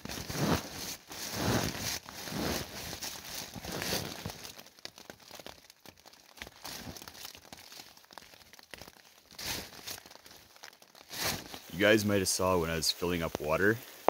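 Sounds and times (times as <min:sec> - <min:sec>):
plastic bag crinkling: 0:00.0 - 0:12.4
rain on tent: 0:00.0 - 0:14.0.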